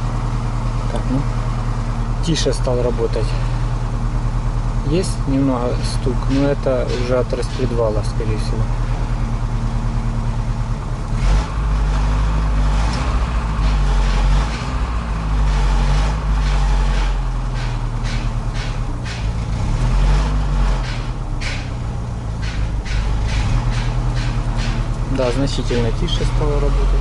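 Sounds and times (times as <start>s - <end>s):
engine running with knock: 0.0s - 27.0s.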